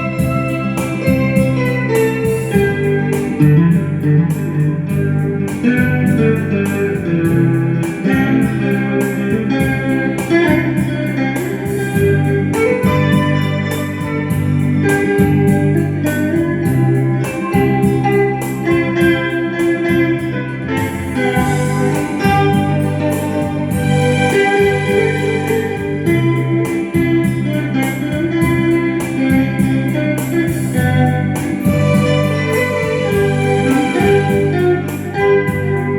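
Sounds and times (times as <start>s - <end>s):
guitar playing slow melody: 0.0s - 35.9s
keyboard backing with steady beat: 0.0s - 35.9s.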